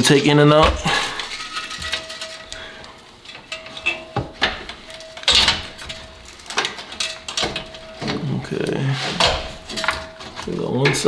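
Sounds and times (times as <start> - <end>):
metal knocks clunks and scrapes: 0.0 - 11.0.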